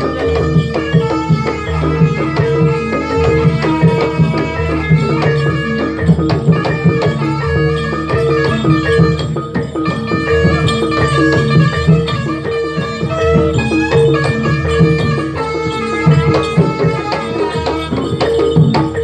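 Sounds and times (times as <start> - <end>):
hand drums beating: 0.0 - 19.0
pitched percussion pattern: 0.0 - 19.0.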